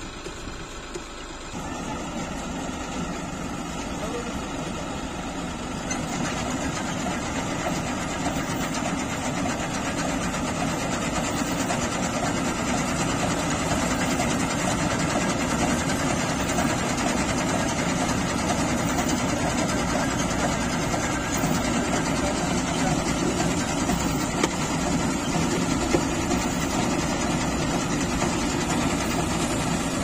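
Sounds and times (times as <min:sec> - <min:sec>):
harvester threshing machinery: 0:00.0 - 0:30.0
tractor diesel engine under load: 0:00.0 - 0:30.0.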